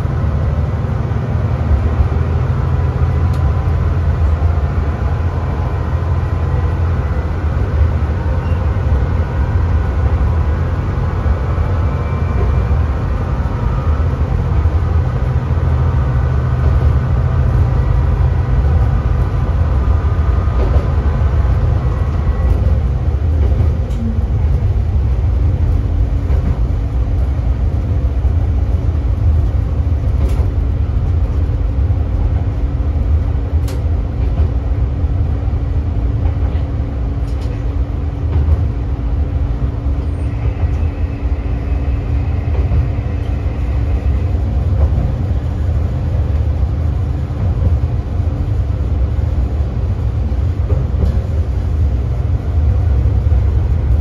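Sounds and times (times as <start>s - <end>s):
diesel railcar engine rumble: 0.0s - 54.0s.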